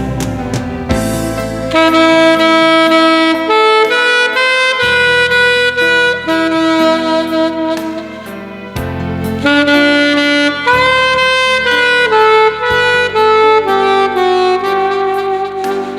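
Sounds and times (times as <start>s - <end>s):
alto saxophone slow melody: 0.0s - 15.9s
backing music: 0.0s - 15.9s.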